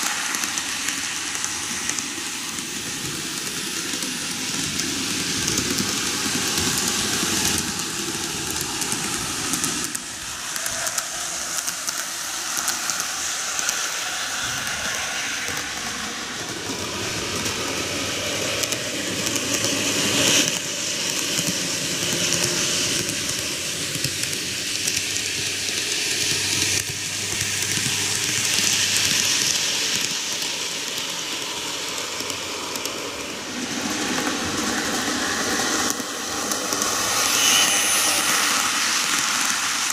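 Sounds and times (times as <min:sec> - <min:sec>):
model train wheels rolling on rails: 0:00.0 - 0:39.9.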